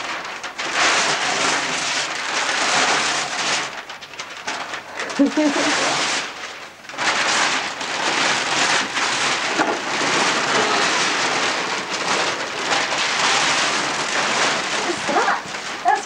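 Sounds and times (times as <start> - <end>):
wrapping paper ripping and rustling: 0.0 - 16.0.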